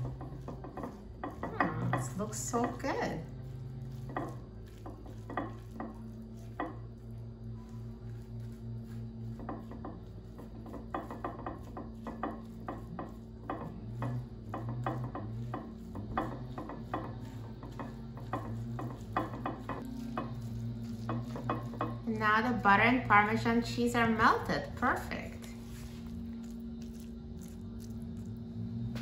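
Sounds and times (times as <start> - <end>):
fork scraping squash strands: 0.0 - 23.8, 25.6 - 29.0
low hum: 0.0 - 29.0.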